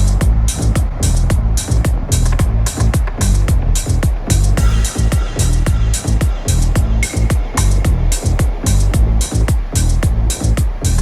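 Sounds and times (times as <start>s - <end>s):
deep bass line: 0.0s - 11.0s
kick and snare beat: 0.0s - 11.0s.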